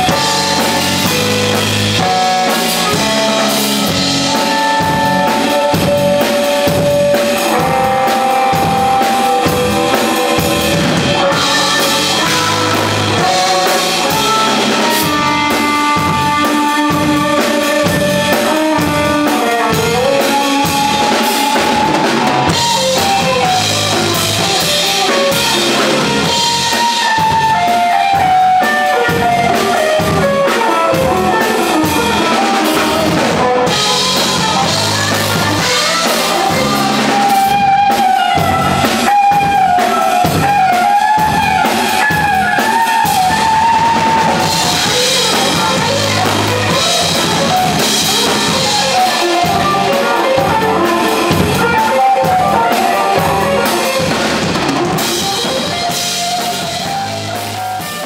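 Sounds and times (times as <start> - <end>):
drum kit: 0.0 - 58.0
electric bass: 0.0 - 58.0
electric guitar lead: 0.0 - 58.0.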